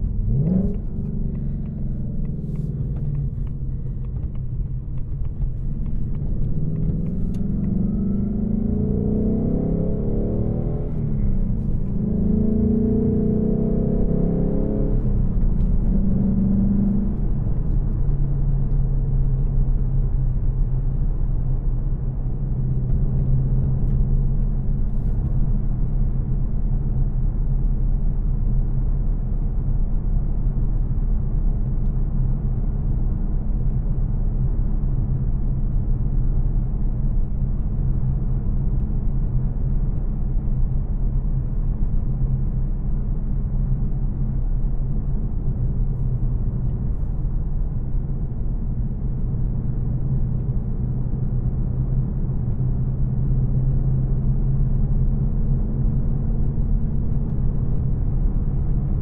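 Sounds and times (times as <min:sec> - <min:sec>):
car engine cruising drone: 0:00.0 - 0:59.0
road noise: 0:00.0 - 0:59.0.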